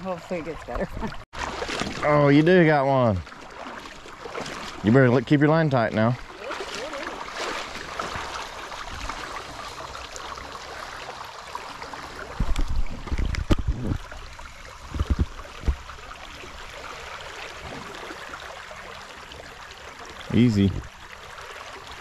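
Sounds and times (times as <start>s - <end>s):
river water running: 0.0s - 22.0s.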